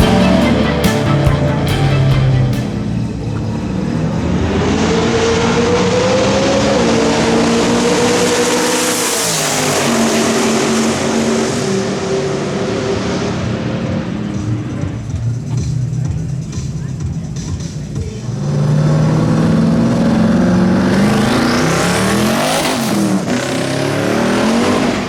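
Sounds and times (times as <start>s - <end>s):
race car engine at full throttle: 0.0s - 25.0s.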